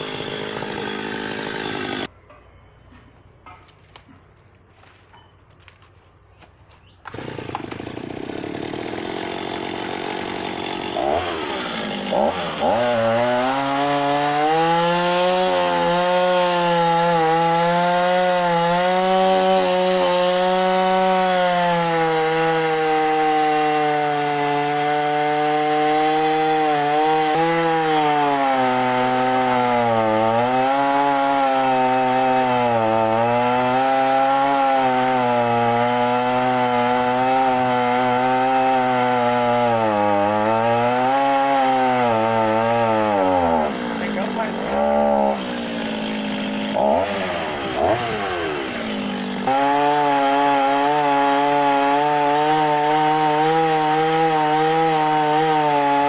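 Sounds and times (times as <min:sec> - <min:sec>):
chainsaw cutting into tree: 0:00.0 - 0:02.1, 0:07.0 - 0:56.0.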